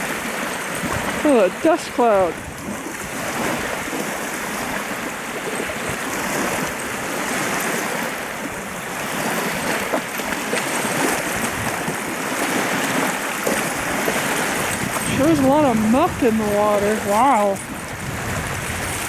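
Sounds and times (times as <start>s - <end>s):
small waves lapping on shore: 0.0s - 19.0s.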